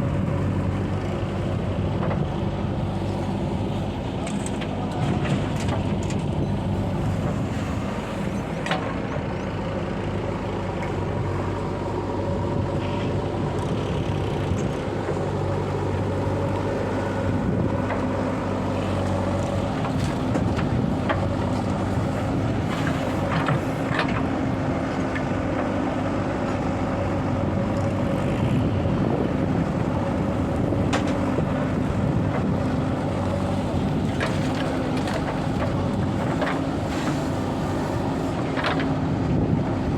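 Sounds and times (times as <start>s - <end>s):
diesel machinery droning: 0.0s - 39.9s.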